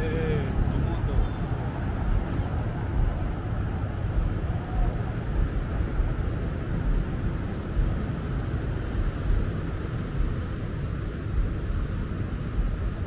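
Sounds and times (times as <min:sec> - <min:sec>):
steady outdoor hiss: 0:00.0 - 0:13.0
wind buffeting microphone: 0:00.0 - 0:13.0.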